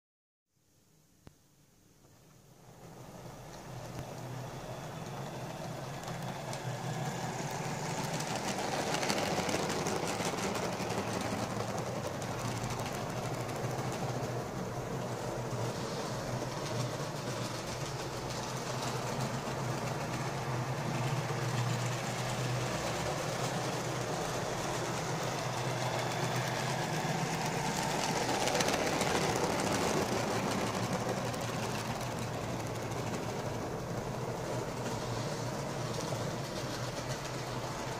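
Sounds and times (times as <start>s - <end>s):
model locomotive motor hum: 2.8s - 37.9s.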